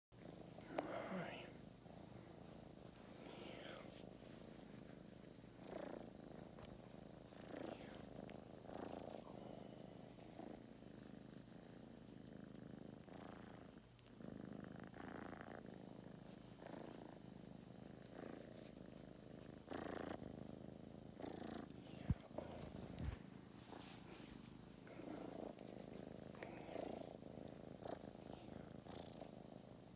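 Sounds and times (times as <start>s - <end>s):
kitten purring: 0.2s - 29.9s.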